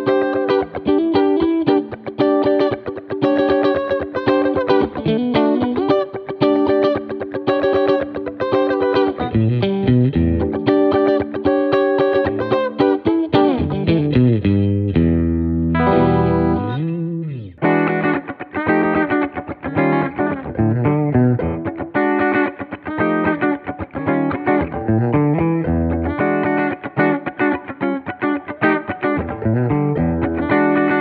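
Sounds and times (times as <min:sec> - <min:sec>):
clean electric guitar: 0:00.0 - 0:31.0.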